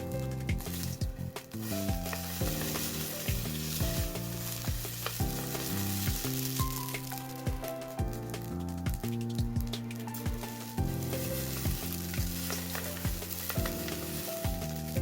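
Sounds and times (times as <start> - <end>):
background music: 0.0 - 15.0
wood fire crackles: 0.0 - 15.0
food sizzling in a pan: 0.1 - 15.0.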